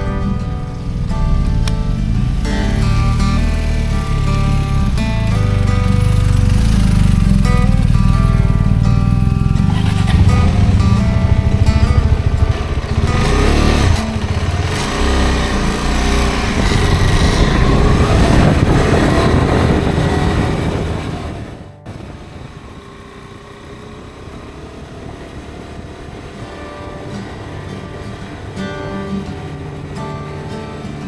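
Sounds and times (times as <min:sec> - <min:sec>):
wind noise: 0:00.0 - 0:30.6
motorcycle engine running: 0:00.0 - 0:31.0.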